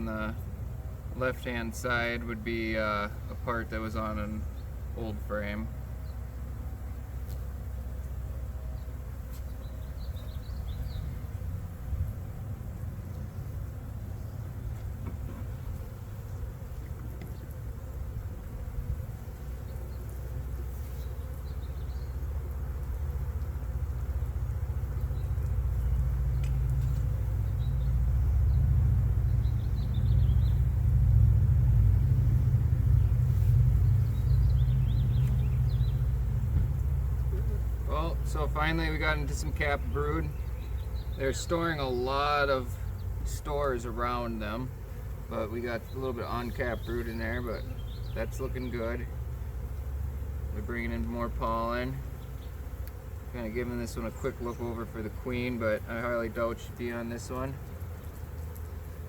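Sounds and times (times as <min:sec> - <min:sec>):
bees humming: 0:00.0 - 0:59.0
low steady rumble: 0:00.0 - 0:59.0.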